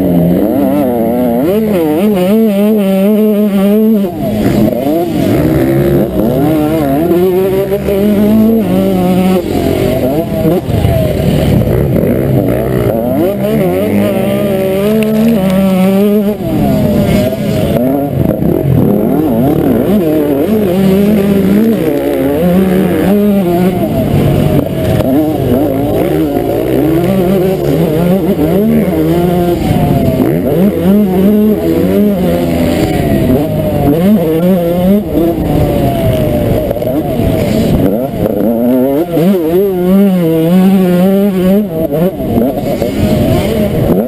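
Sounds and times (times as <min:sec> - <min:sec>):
two-stroke motocross engine revving: 0:00.0 - 0:44.0.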